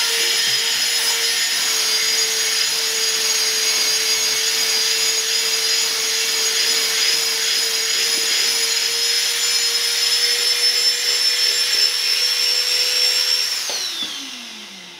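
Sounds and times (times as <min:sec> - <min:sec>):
handheld vacuum cleaner whine: 0:00.0 - 0:14.9.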